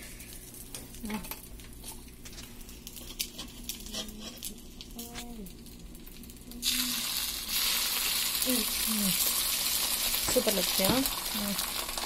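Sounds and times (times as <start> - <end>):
egg sizzling on hot pan: 0.0 - 12.0.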